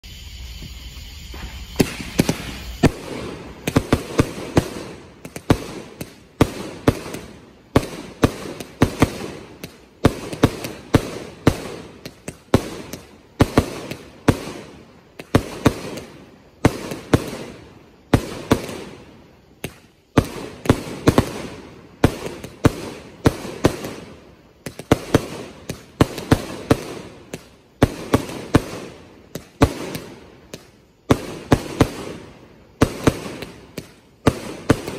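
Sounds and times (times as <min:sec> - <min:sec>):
firework crackling: 0:00.0 - 0:34.9
firework fuse hiss: 0:00.0 - 0:34.9
loud firework bangs: 0:01.2 - 0:34.9.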